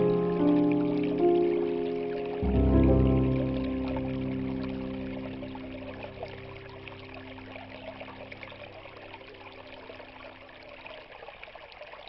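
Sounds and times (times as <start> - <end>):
soft background music: 0.0 - 11.0
stream trickling over stones: 0.0 - 12.0.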